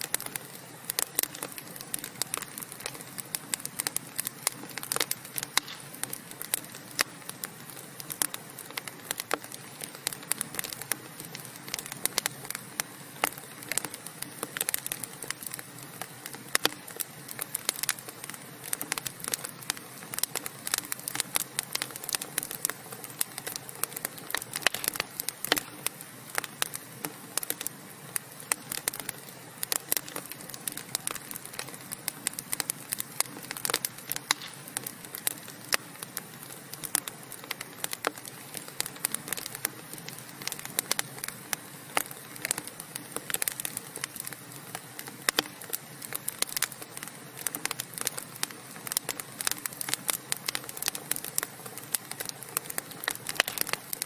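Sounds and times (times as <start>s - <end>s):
burning logs crackling: 0.0s - 54.0s.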